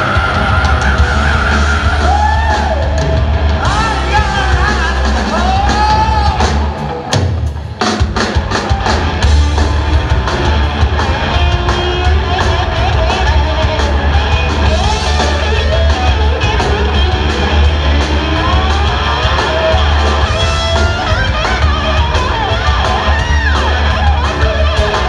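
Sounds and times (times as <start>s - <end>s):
electric guitars bending notes: 0.0s - 7.7s, 8.3s - 25.0s
bass: 0.0s - 25.0s
drums: 0.0s - 25.0s
keyboards: 0.0s - 25.0s.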